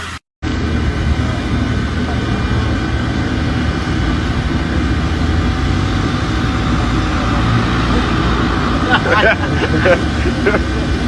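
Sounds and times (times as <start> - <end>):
faint engine whine: 0.0 - 11.0
jet engines rumbling: 0.0 - 11.0.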